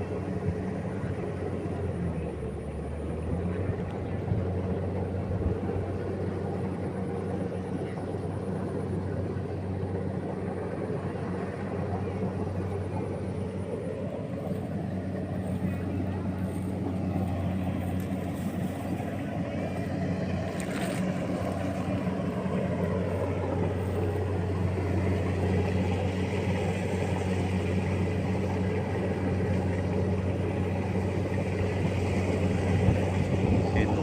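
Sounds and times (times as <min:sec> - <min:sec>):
harvester engine humming: 0:00.0 - 0:34.0.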